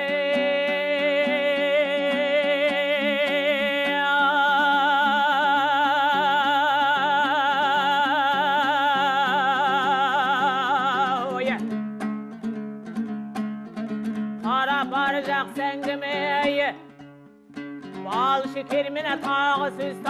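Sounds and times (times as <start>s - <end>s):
person singing with vibrato: 0.0s - 11.8s, 14.4s - 17.0s, 17.8s - 20.0s
plucked strings: 0.0s - 20.0s.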